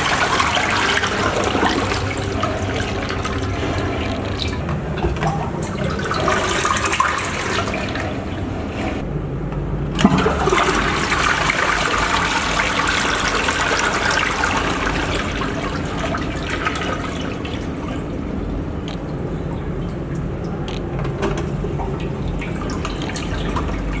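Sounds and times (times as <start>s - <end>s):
rushing gurgling water: 0.0s - 9.1s, 10.0s - 24.0s.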